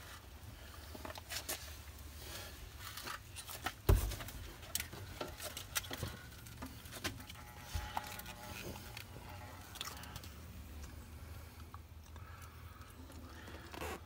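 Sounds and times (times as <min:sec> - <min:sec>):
clicks and rustles of wire: 0:00.0 - 0:14.0.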